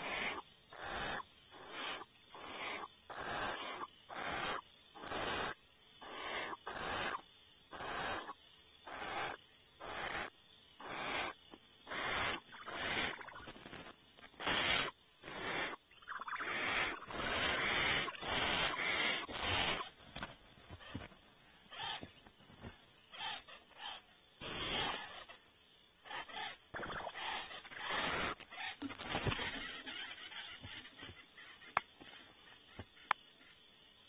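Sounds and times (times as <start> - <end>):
owl hissing snore calls: 0.0 - 20.0, 20.7 - 33.6.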